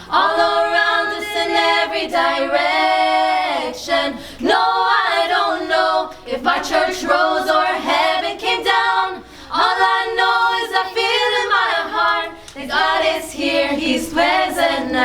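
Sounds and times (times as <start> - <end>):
voices singing a cappella: 0.0 - 15.0.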